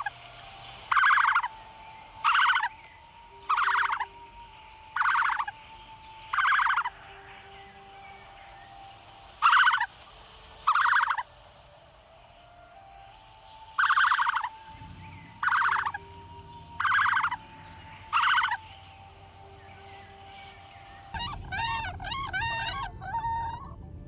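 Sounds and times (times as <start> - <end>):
bird harsh rattling calls: 0.0 - 11.3, 13.5 - 23.8.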